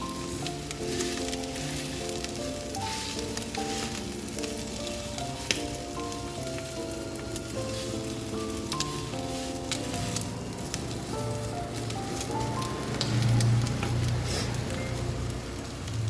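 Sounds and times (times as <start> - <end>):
background music: 0.0 - 16.0
chicken sizzling in a frying pan: 0.0 - 16.0.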